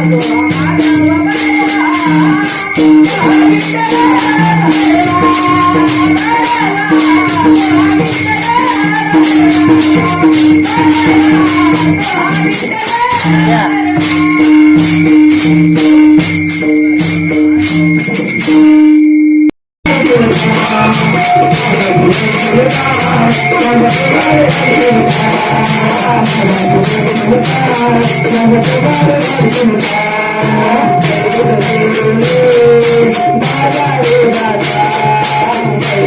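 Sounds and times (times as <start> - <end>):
man singing: 0.0 - 15.4, 19.8 - 36.0
drum pattern: 0.0 - 19.2, 19.8 - 36.0
hand cymbals ringing: 0.0 - 36.0.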